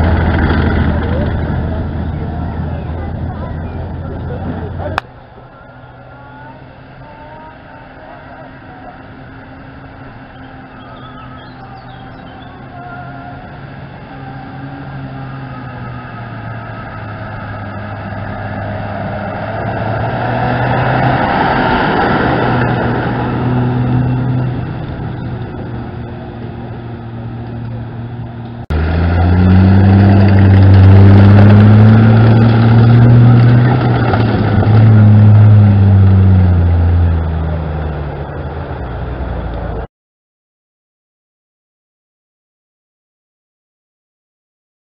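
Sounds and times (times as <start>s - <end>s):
military vehicle engines: 0.0s - 39.9s
vehicle passing by: 0.0s - 39.9s.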